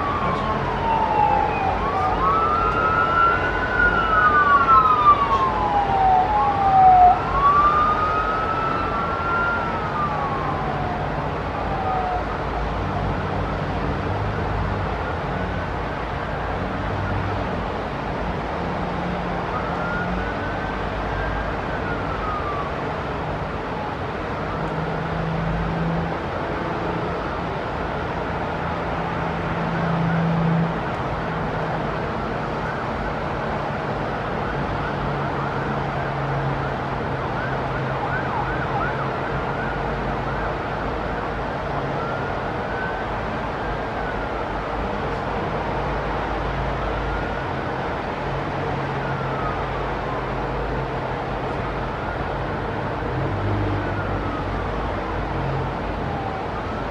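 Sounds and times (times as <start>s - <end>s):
emergency vehicle siren wailing: 0.0s - 56.9s
low city rumble: 0.0s - 56.9s.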